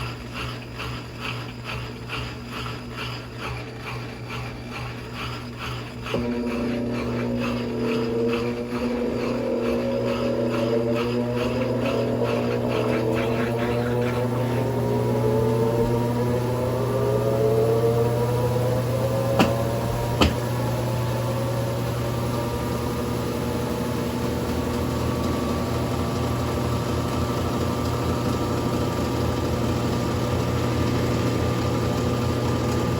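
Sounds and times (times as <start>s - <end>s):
washing machine spinning: 0.0s - 32.9s.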